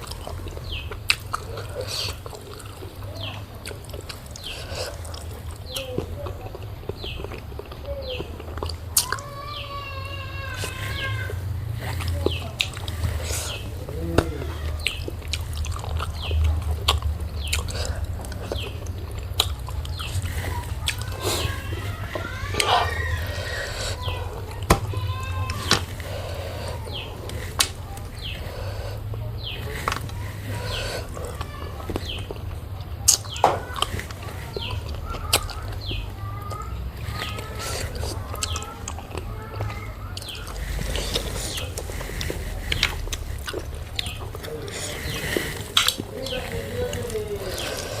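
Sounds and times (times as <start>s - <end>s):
mouth clicks and smacks: 0.0s - 9.3s, 11.8s - 22.5s, 25.7s - 48.0s
person chewing and eating: 0.0s - 48.0s.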